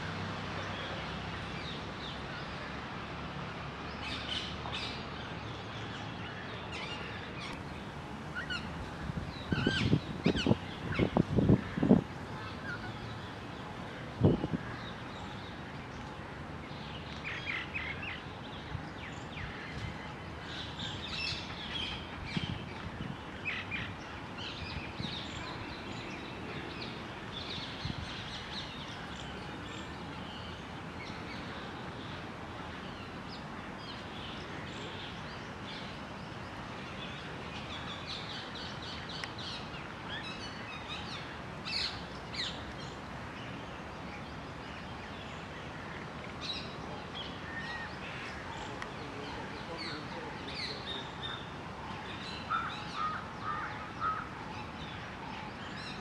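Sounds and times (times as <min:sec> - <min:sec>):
outdoor background hiss: 0:00.0 - 0:56.0.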